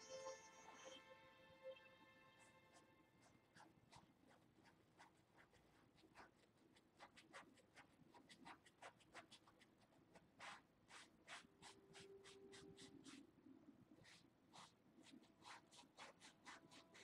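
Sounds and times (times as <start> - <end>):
paintbrush strokes on canvas: 2.4 - 13.3, 13.9 - 17.0.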